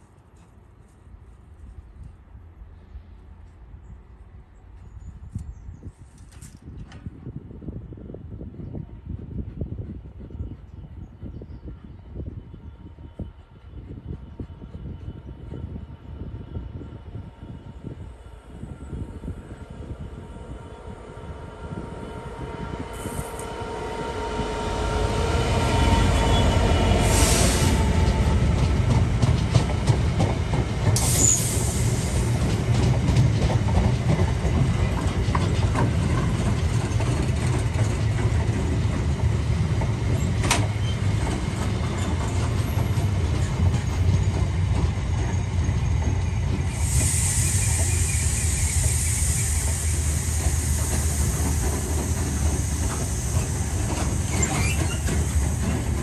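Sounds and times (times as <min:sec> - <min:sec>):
train rumble passing: 0:06.7 - 0:56.0.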